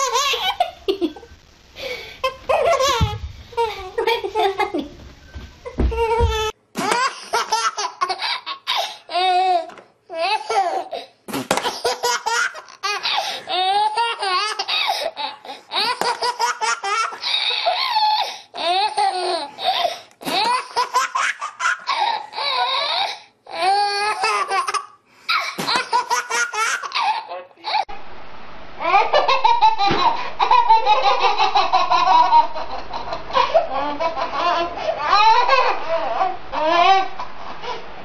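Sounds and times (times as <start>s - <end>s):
baby laughing: 0.0s - 1.2s, 2.2s - 4.9s, 5.7s - 27.9s, 28.8s - 37.7s.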